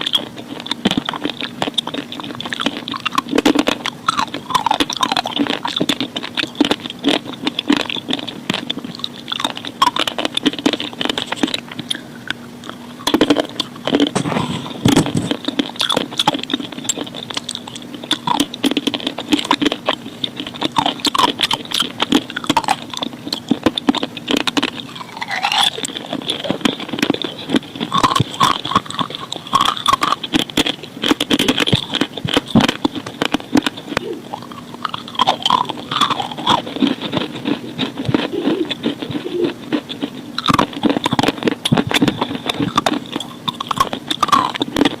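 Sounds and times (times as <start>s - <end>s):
crunching and chewing chalk: 0.0s - 45.0s.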